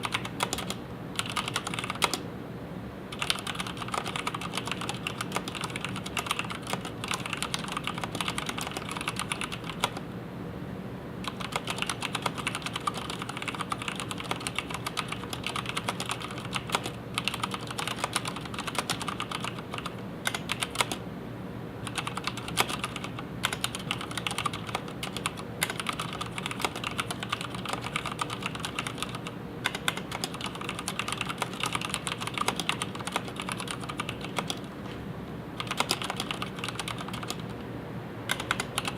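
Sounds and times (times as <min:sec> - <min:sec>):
mechanical keyboard typing: 0:00.0 - 0:02.2, 0:03.1 - 0:10.0, 0:11.2 - 0:21.0, 0:21.8 - 0:34.7, 0:35.6 - 0:37.6, 0:38.3 - 0:38.9.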